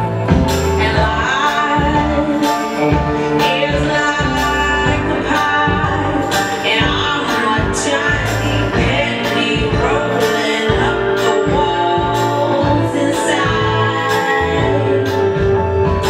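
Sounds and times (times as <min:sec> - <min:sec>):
person singing: 0:00.0 - 0:16.0
tango music: 0:00.0 - 0:16.0.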